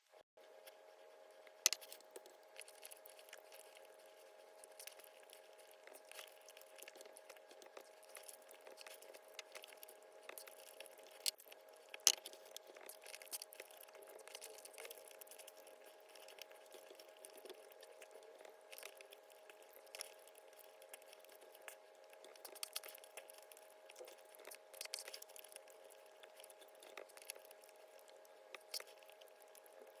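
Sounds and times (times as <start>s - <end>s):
faint hum: 0.0s - 30.0s
chewing mouth clicks: 1.7s - 30.0s.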